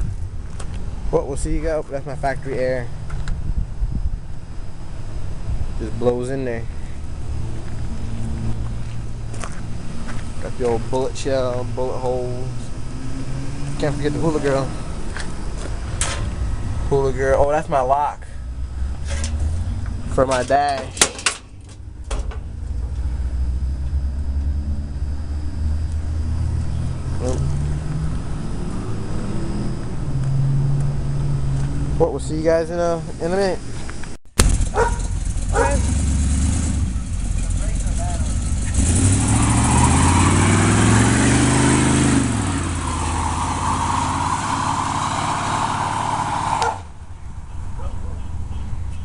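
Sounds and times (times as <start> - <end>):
truck engine rumbling: 0.0 - 49.0.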